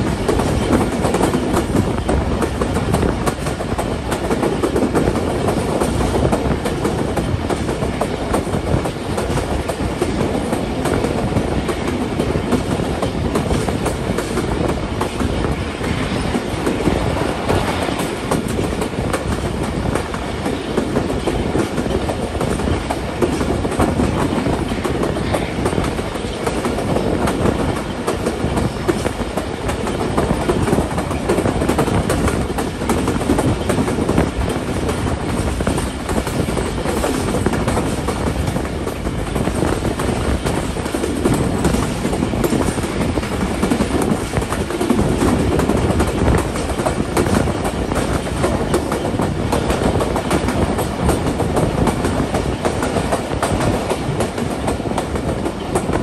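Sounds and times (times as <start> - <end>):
train rumbling at speed: 0.0 - 56.0
wheels clattering on rails: 0.0 - 56.0.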